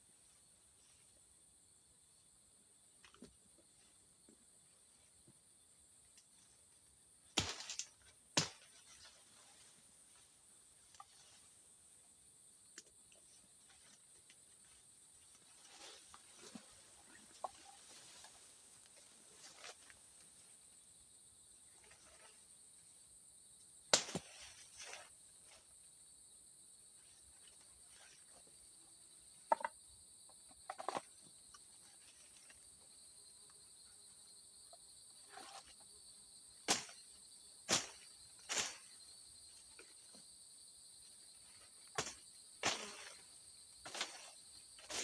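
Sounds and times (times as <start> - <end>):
crickets droning: 0.0 - 45.0.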